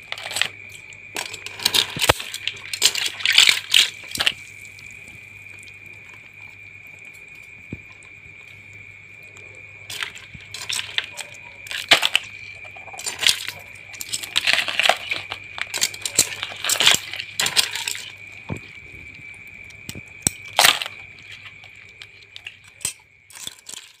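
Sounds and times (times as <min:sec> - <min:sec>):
crabs clicking in plastic basin: 0:00.0 - 0:24.0.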